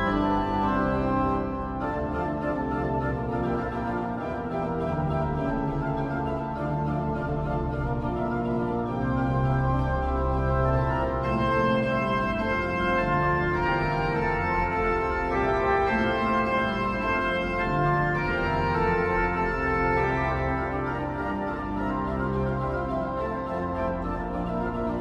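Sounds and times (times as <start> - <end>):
organ music sustained chords: 0.0 - 25.0.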